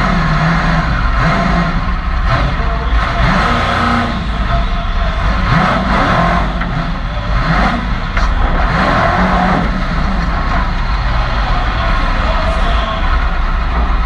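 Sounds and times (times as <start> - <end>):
heavy low rumble: 0.0 - 14.0
race truck engine revving: 0.0 - 14.0.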